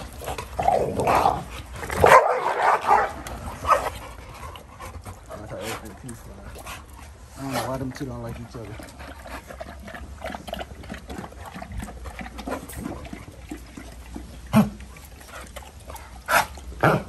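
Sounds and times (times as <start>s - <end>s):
dogs lapping water: 0.0s - 17.0s.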